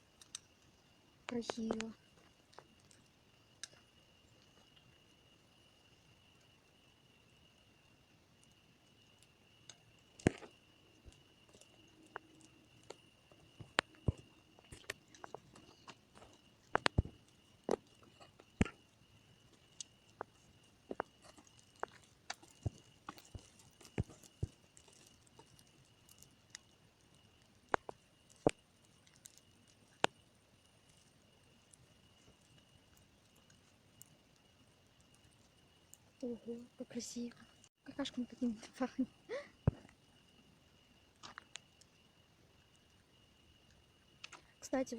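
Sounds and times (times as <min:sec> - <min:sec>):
campfire crackling and popping: 0:00.0 - 0:44.6.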